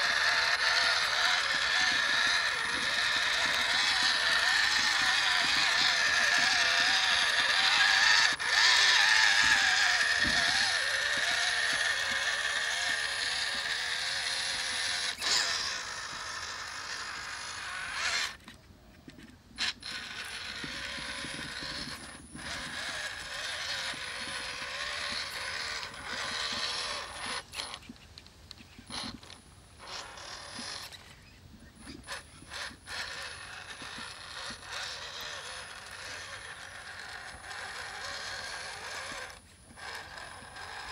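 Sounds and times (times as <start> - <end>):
toy truck electric motor whining: 0.0 - 40.9.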